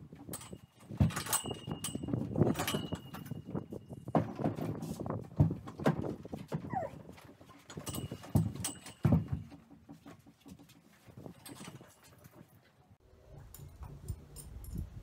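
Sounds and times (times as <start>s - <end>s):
saddle knocks and thumps: 0.1s - 12.8s
horse hooves shifting on floor: 0.1s - 15.0s.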